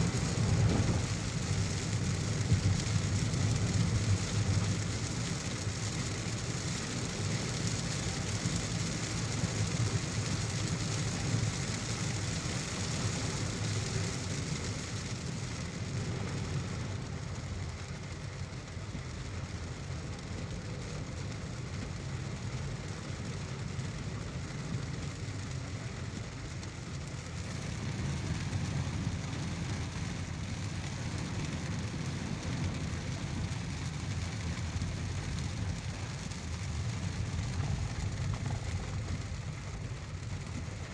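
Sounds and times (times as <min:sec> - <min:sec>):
heavy rain hiss: 0:00.0 - 0:18.3, 0:24.0 - 0:40.9
low road rumble: 0:00.0 - 0:40.9.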